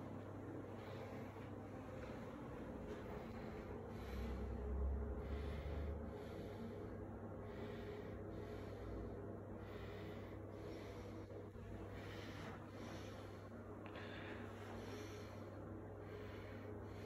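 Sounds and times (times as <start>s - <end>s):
person breathing: 0.0s - 17.0s
steady low hum: 0.0s - 17.0s.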